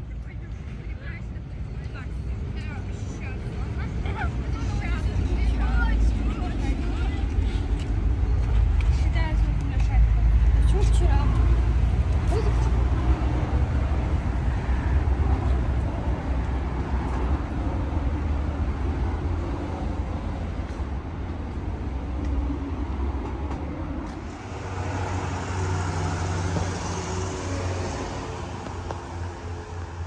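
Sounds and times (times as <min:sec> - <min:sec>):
rumble of vehicle traffic: 0:00.0 - 0:30.0.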